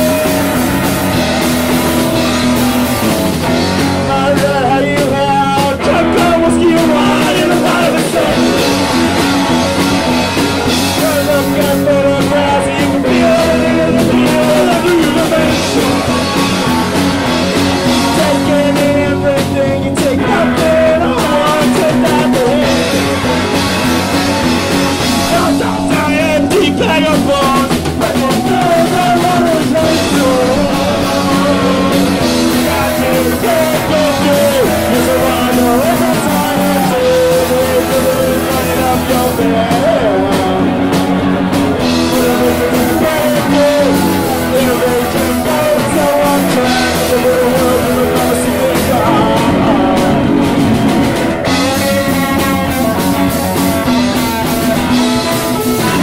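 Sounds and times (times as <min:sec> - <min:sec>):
person singing: 0:00.0 - 0:56.0
punk rock band playing: 0:00.0 - 0:56.0.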